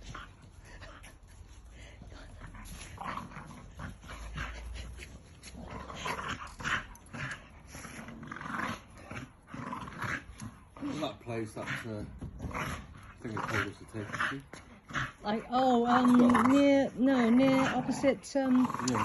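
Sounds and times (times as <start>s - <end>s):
dogs growling playfully: 0.0s - 19.0s.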